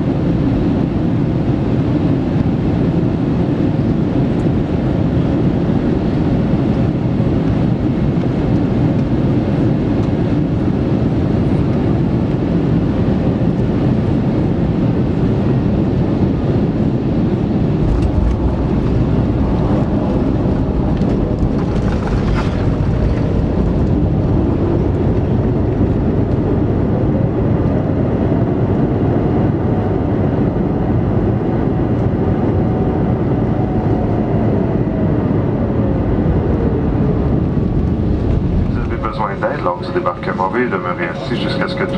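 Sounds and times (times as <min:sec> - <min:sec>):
airliner cabin roar: 0:00.0 - 0:41.9.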